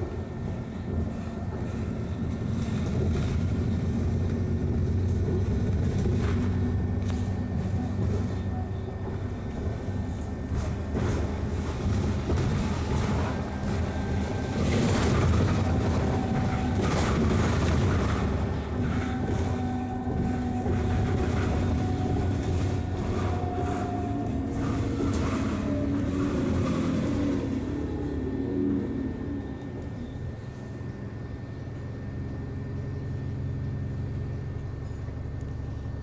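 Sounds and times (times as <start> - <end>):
bus engine drone: 0.0 - 36.0
whine: 0.0 - 36.0.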